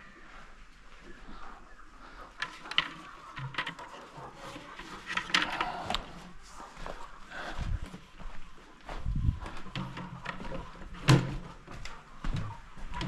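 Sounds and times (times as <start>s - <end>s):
chickens clucking faintly: 0.0s - 13.0s.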